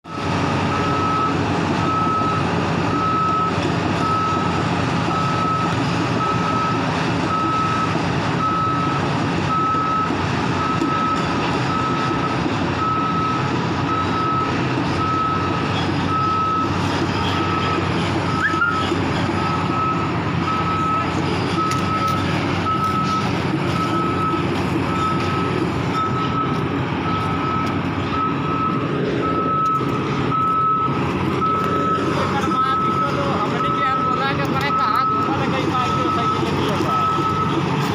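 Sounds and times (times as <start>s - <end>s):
diesel engine running: 0.0s - 37.9s
reversing alarm beeps: 0.1s - 37.6s.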